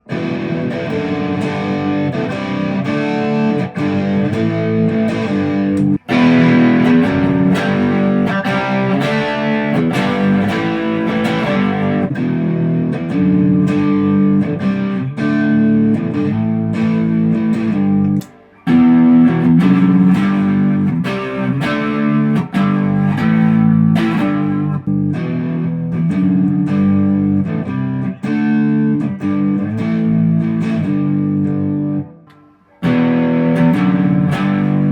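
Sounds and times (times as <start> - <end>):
electric guitar through amplifier: 0.0 - 34.9.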